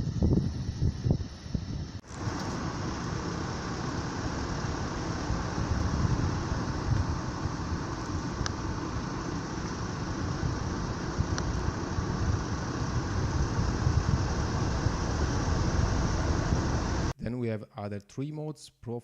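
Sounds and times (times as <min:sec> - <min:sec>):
motor vehicle engine running: 0:00.0 - 0:17.1.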